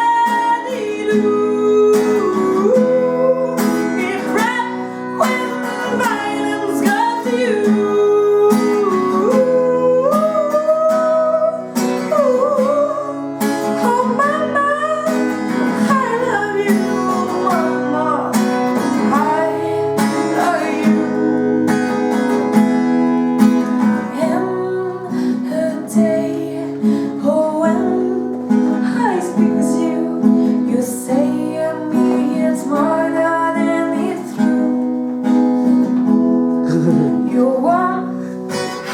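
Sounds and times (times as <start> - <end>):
person singing: 0.0 - 21.3, 23.7 - 34.8, 36.6 - 38.9
acoustic guitar: 0.0 - 38.9.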